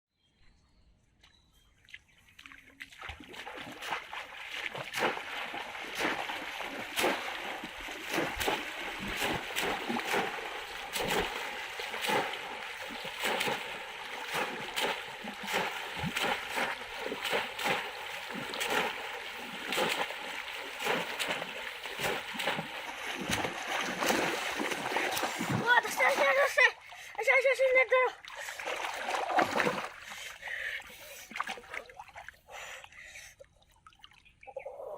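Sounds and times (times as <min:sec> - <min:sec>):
shallow river water splashing: 0:01.8 - 0:34.6.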